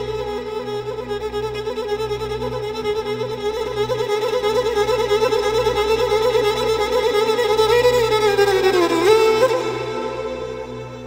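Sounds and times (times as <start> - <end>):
slow violin-like melody: 0.0 - 11.0.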